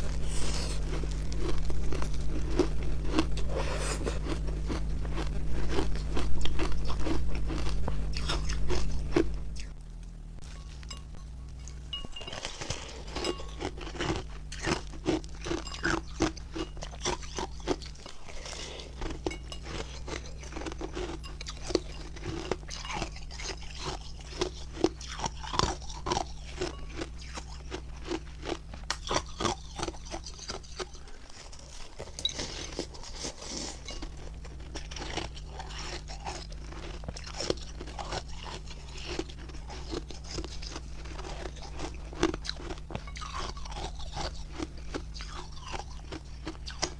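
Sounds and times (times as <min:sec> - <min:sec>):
ice crunching while chewed: 0:00.0 - 0:46.9.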